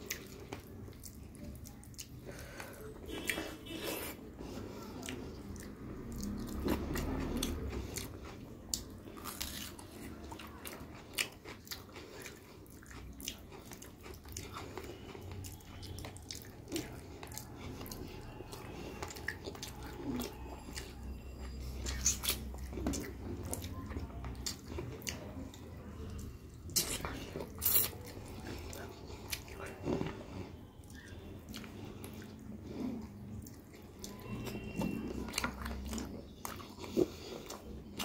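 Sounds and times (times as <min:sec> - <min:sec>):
wet chewing and mouth smacks: 0:05.0 - 0:38.0.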